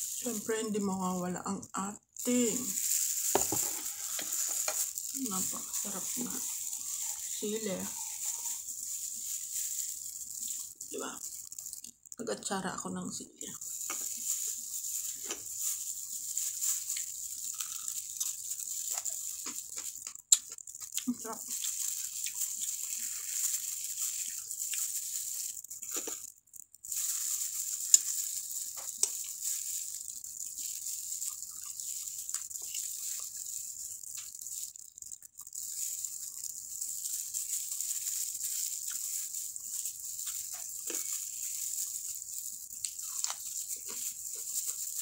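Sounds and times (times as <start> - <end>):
chewing: 3.6 - 12.2, 13.5 - 45.0.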